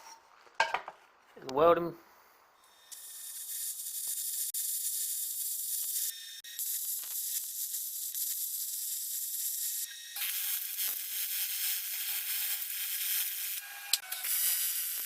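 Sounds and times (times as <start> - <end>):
welding arc sizzling: 2.6 - 15.0.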